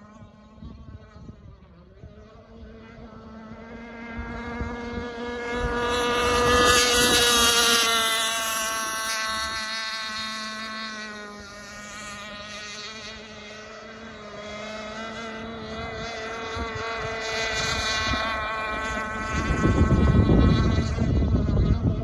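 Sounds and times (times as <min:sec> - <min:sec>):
model speedboat engine passing: 0:00.0 - 0:22.0.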